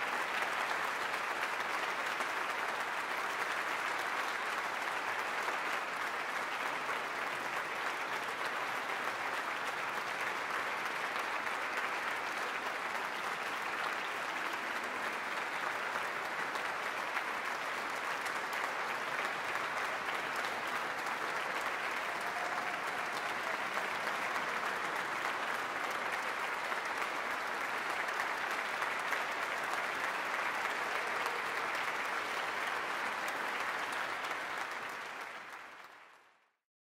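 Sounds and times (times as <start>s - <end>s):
audience applauding: 0.0s - 36.6s.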